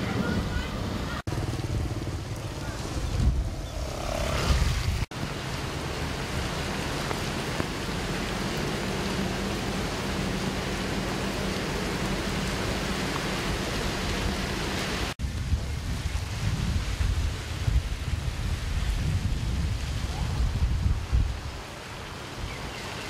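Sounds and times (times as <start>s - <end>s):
wind gusts buffeting microphone: 0.0s - 23.0s
rain hiss: 0.2s - 23.0s.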